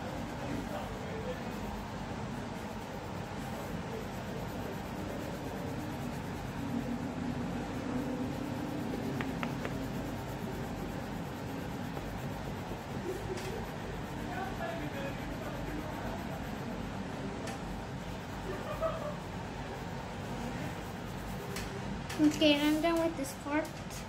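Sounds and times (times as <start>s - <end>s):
pencil scratching on paper: 0.0s - 17.2s, 19.1s - 21.7s.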